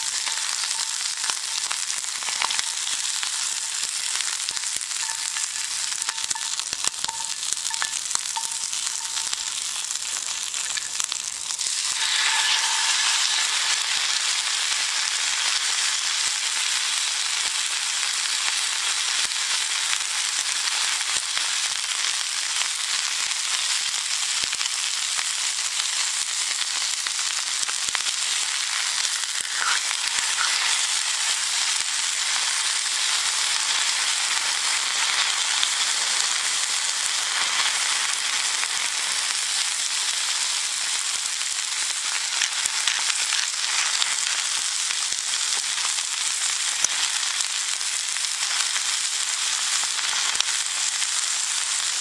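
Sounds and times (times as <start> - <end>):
food sizzling in a skillet: 0.0 - 52.0.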